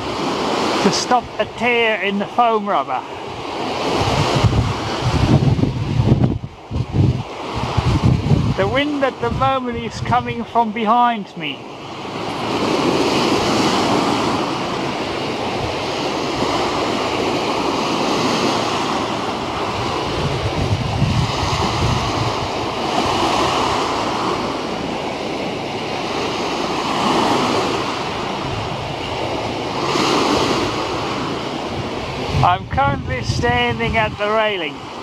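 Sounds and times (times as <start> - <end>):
wind buffeting microphone: 0.0 - 1.8, 3.1 - 10.7, 11.6 - 35.0
waves washing: 0.0 - 35.0.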